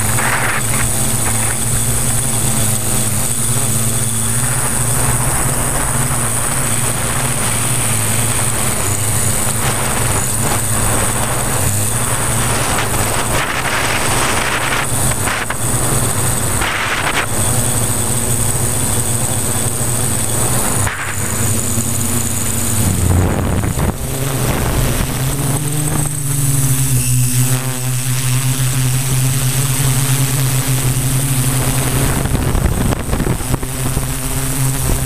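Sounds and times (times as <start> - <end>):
drone propellers humming: 0.0 - 35.0
wind noise: 0.0 - 35.0.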